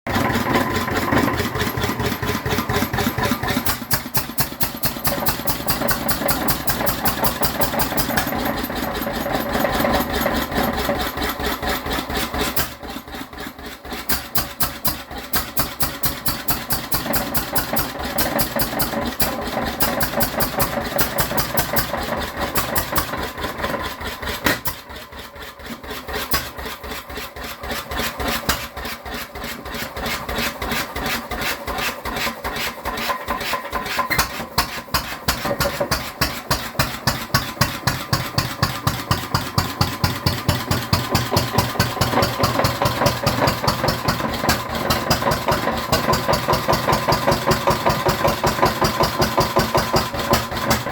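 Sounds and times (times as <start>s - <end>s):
stationary engine running: 0.1s - 50.9s.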